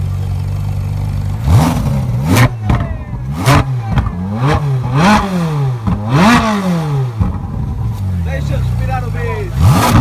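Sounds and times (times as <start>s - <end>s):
car engine revving: 0.0s - 10.0s
exhaust cracks: 0.0s - 10.0s.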